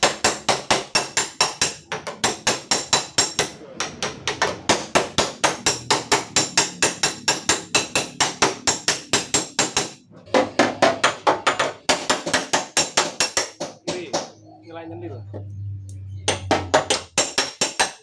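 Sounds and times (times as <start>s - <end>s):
hammer striking steel panel: 0.0s - 14.3s, 16.3s - 18.0s.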